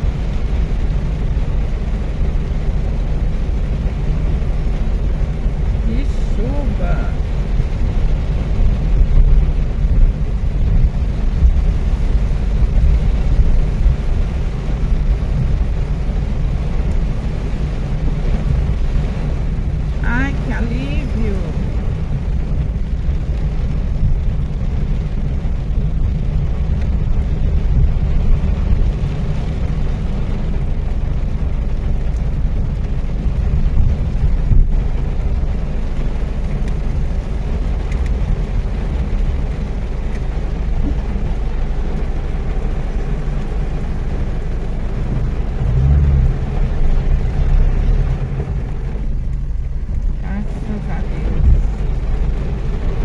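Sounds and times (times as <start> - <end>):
rain on car: 0.0 - 53.0
tyre noise on wet road: 0.0 - 53.0.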